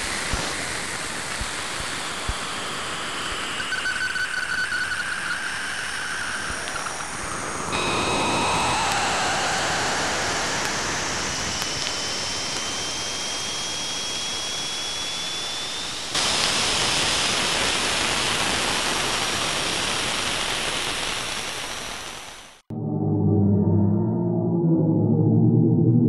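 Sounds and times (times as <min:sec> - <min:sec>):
steady hiss: 0:00.0 - 0:03.8, 0:04.8 - 0:22.6.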